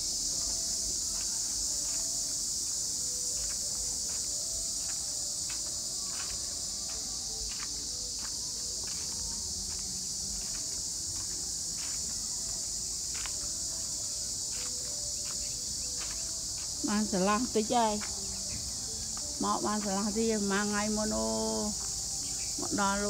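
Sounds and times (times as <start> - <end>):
footsteps on dirt path: 0.0 - 23.0
insects droning: 0.0 - 23.0.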